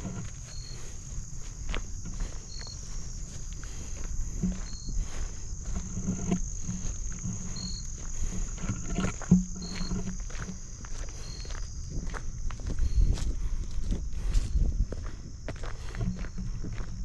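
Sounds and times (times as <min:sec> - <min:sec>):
crickets chorus: 0:00.0 - 0:17.0
footsteps through vegetation: 0:00.0 - 0:17.0
low droning hum: 0:00.0 - 0:17.0.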